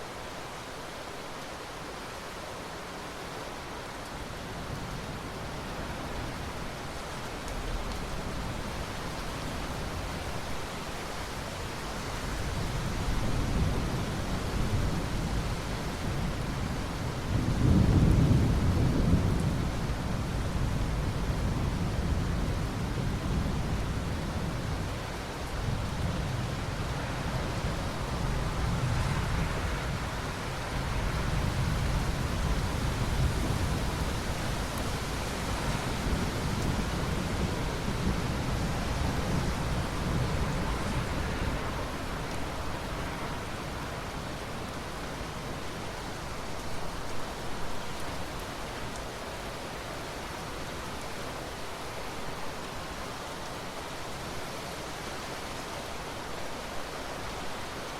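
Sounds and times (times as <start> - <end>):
heavy rain hiss: 0.0 - 57.9.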